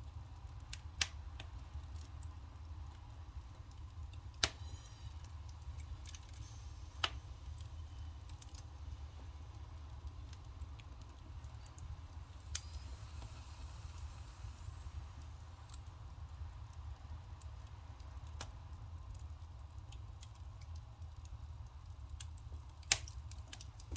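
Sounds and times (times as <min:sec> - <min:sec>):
firewood crackling and popping: 0:00.0 - 0:23.9.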